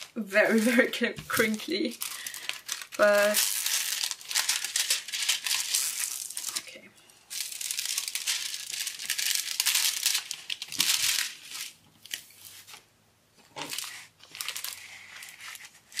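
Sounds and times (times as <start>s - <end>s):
plastic crinkling under hands: 0.0s - 12.9s, 13.5s - 16.0s.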